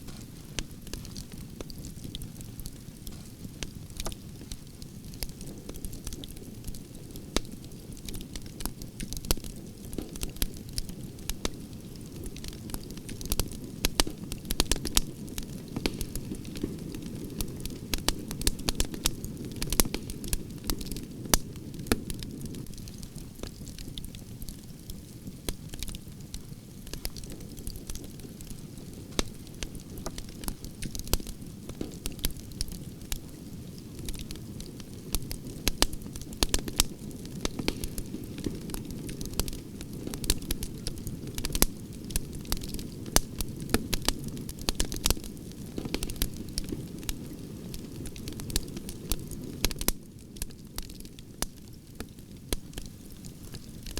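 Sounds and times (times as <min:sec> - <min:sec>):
campfire crackling: 0:00.0 - 0:53.9
fire pops and snaps: 0:00.0 - 0:53.9.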